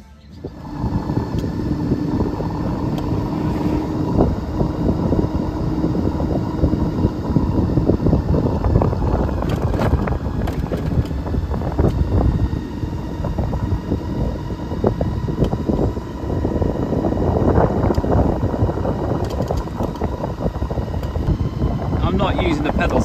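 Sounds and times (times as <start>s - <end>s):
electric motor whine: 0.0s - 23.0s
low rumble: 0.0s - 23.0s
wind buffeting microphone: 0.4s - 23.0s.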